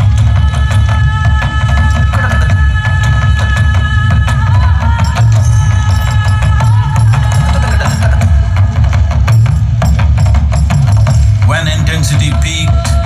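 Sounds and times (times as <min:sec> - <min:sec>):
heavy bass: 0:00.0 - 0:13.0
loud music with drumming: 0:00.0 - 0:13.0.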